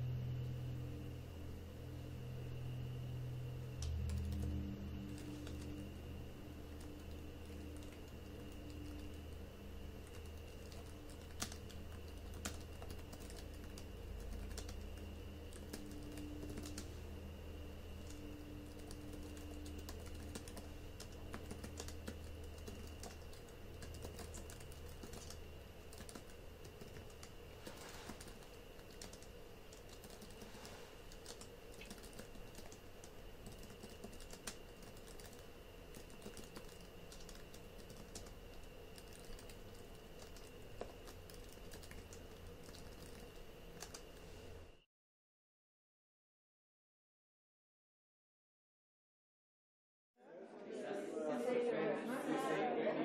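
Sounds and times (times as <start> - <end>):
low steady hum: 0.0 - 44.8.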